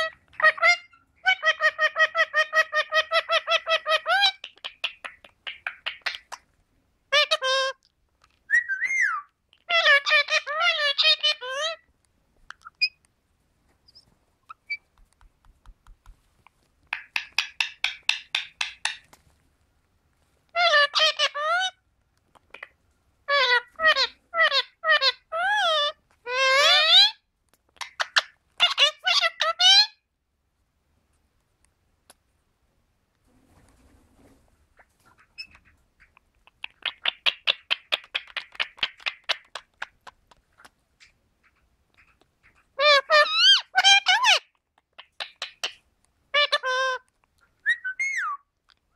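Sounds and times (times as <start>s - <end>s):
parakeet chirps and clicks: 0.0s - 11.8s, 12.4s - 13.2s, 13.8s - 19.2s, 20.5s - 22.8s, 23.4s - 29.9s, 35.0s - 48.9s.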